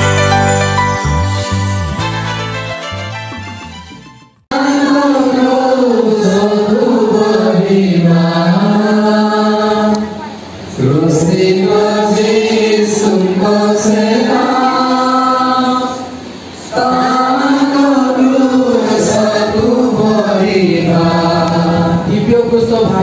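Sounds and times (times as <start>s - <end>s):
group singing a hymn: 4.5s - 23.0s.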